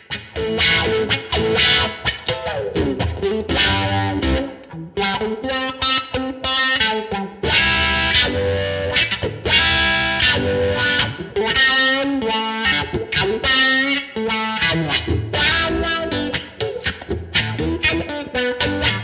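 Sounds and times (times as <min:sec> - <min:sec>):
electric guitar with wah pedal: 0:00.0 - 0:19.0.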